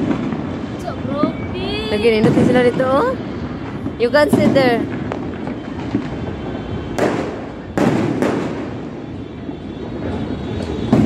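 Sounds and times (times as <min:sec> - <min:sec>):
fireworks exploding: 0:00.0 - 0:11.0
sharp firework bangs: 0:00.0 - 0:11.0.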